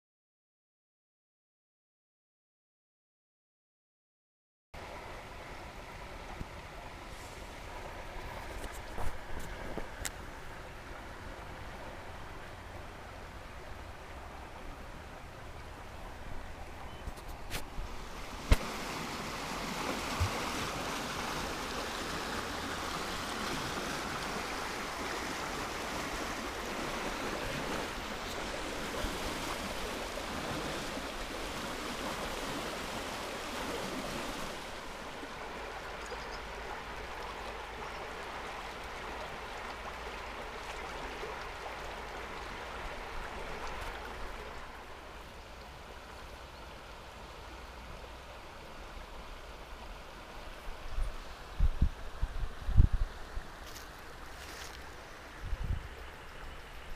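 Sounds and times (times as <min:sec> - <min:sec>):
river water rushing: 0:04.8 - 0:56.9.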